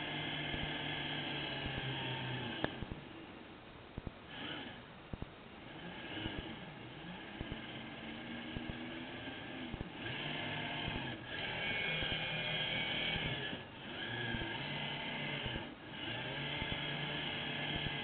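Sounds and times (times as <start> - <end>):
model submarine motor whirring: 0.0 - 2.9, 4.3 - 4.8, 5.7 - 18.0.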